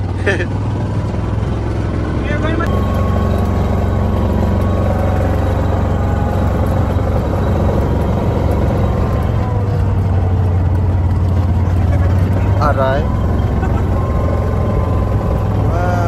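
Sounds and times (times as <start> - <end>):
utility vehicle engine driving: 0.0 - 16.0.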